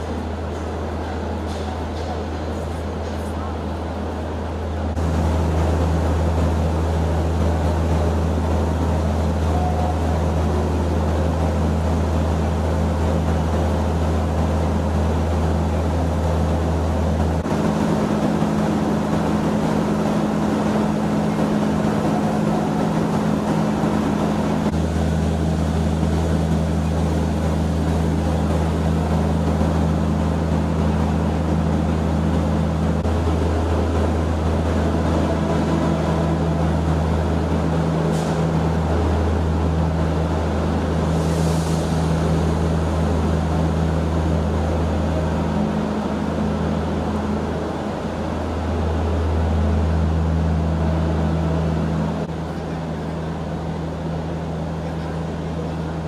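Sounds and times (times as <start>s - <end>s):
idling train machinery hum: 0.0s - 56.0s.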